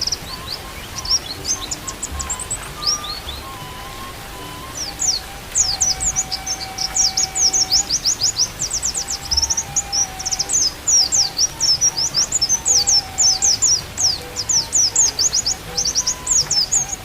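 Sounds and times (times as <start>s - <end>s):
bird twittering song: 0.0s - 17.0s
faint flute notes: 0.0s - 17.0s.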